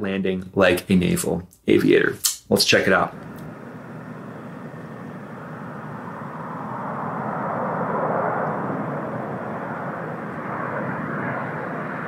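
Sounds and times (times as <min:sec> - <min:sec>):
distant jet engine rushing: 0:01.8 - 0:12.0.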